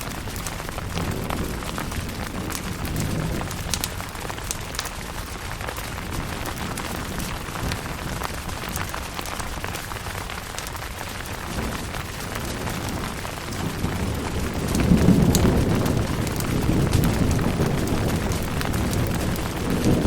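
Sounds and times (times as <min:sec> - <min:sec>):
low thunder rumble: 0:00.0 - 0:10.3, 0:11.0 - 0:20.0
rain falling on a tent: 0:00.0 - 0:20.0.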